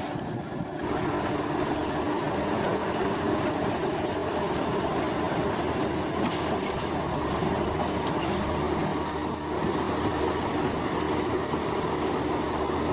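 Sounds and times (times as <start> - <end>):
heavy diesel machinery rumbling: 0.0 - 12.9.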